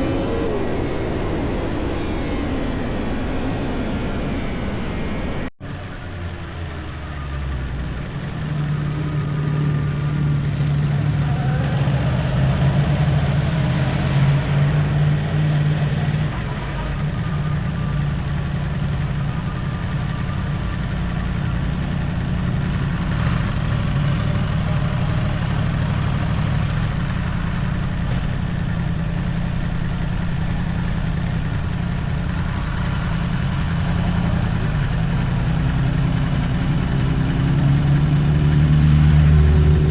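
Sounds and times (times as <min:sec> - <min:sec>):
motorcycle engine running: 0:02.1 - 0:39.9.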